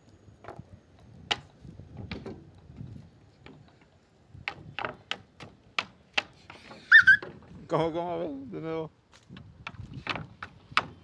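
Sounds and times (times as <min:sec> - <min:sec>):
campfire wood crackling: 0:00.0 - 0:11.0.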